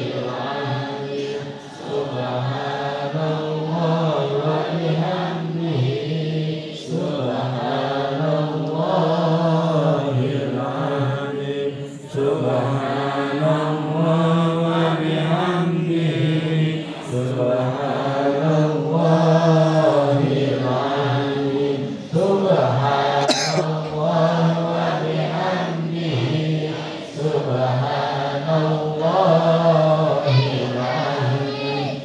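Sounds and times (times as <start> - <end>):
men chanting prayer: 0.0 - 32.0.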